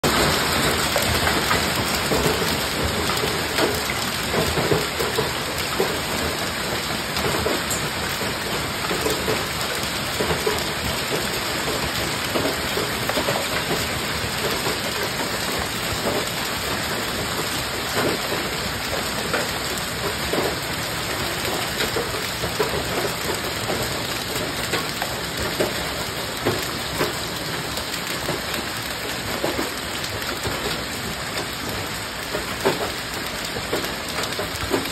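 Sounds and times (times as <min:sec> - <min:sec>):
hailstones pelting ground: 0:00.0 - 0:34.9
rain pouring: 0:00.0 - 0:34.9.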